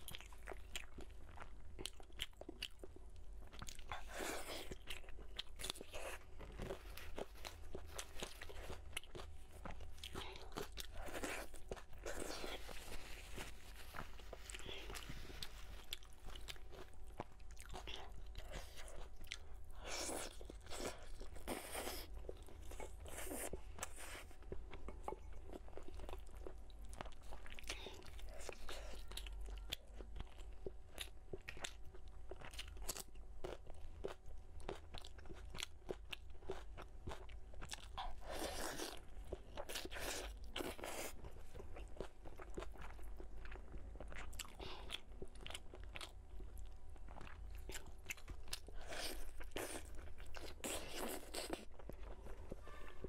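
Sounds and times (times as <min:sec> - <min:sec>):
chewing and crunching: 0:00.0 - 0:53.0.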